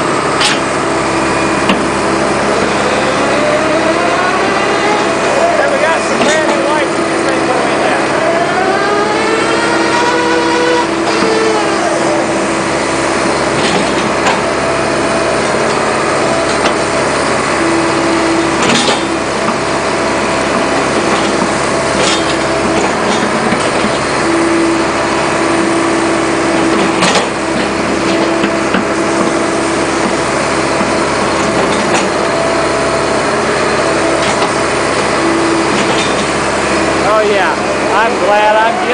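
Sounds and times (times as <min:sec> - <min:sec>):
excavator engine and hydraulics: 0:00.0 - 0:38.9.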